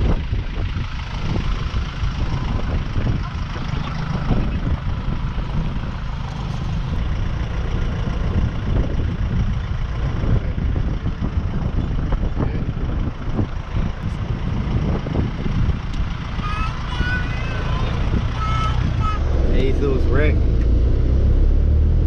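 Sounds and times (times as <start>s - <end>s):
wind buffeting microphone: 0.0s - 21.4s
vehicle engine: 0.0s - 22.0s.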